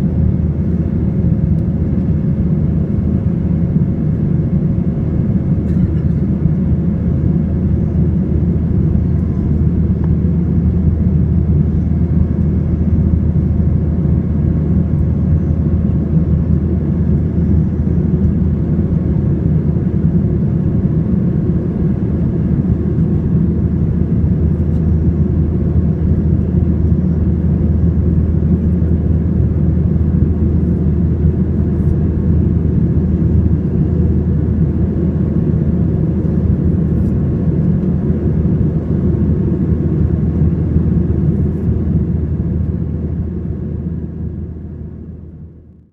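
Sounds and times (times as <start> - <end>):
faint steady hums: 0.0 - 45.9
jet engine and airflow rumble: 0.0 - 45.9.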